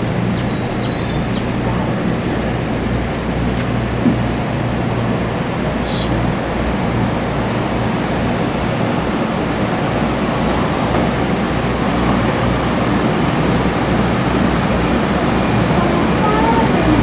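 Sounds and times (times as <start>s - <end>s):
cable car gondola rumbling: 0.0s - 17.0s.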